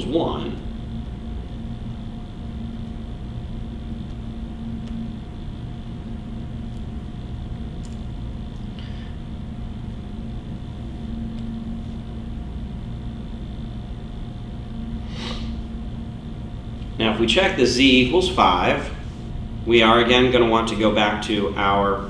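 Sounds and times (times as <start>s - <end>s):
low room and equipment hum: 0.0s - 22.0s.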